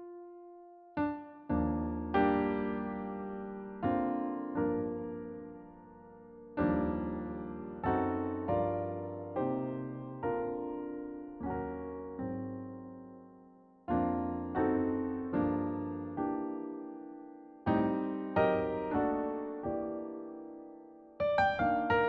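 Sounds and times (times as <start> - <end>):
slow solo piano music: 0.0 - 22.0.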